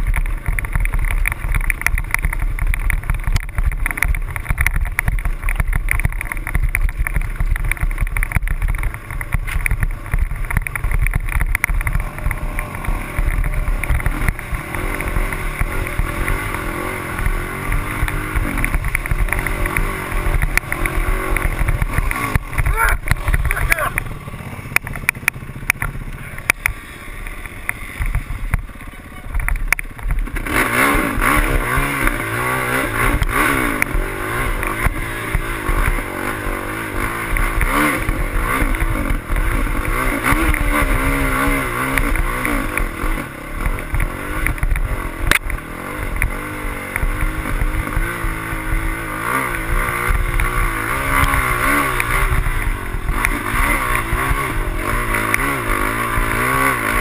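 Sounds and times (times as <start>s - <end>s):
dirt bike engine revving: 0.0s - 57.0s
scattered clicks: 0.0s - 57.0s.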